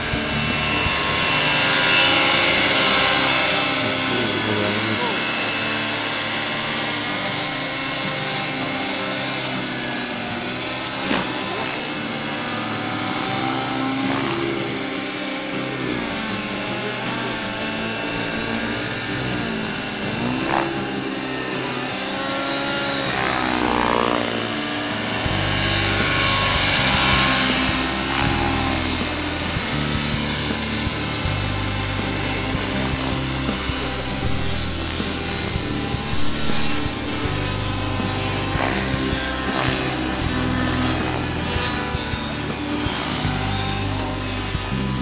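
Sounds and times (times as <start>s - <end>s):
model helicopter flying past: 0.0s - 45.0s.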